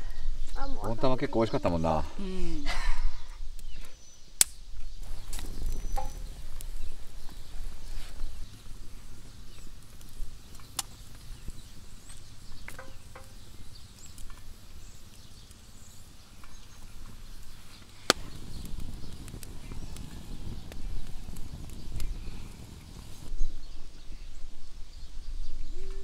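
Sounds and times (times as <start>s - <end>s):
campfire crackling: 0.0s - 23.9s
fire popping: 0.0s - 23.9s.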